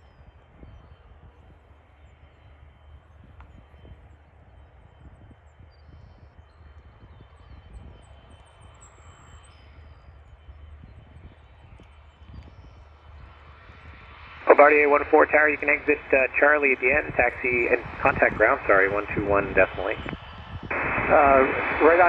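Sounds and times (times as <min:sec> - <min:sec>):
faint jet engine rumble: 0:00.0 - 0:22.0
thin steady whine: 0:00.0 - 0:22.0.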